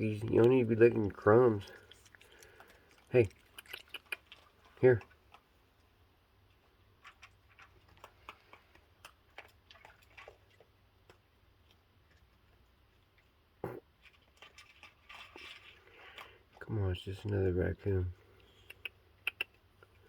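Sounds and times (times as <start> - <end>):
raccoons eating cookies: 0.0 - 20.0.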